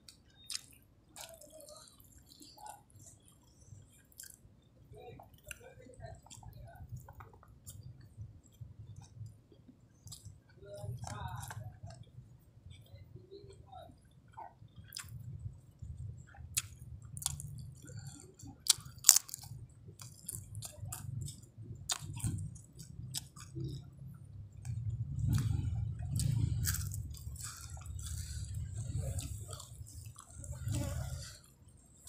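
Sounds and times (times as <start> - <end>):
chewing and crunching food: 0.0 - 32.0
low steady hum: 0.0 - 32.0.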